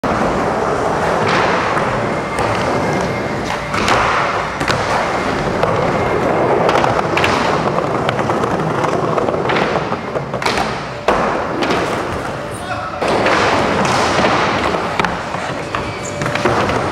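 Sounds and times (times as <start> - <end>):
skateboard wheels rolling on wood: 0.0 - 16.9
skateboard clacks and thuds: 0.2 - 16.9.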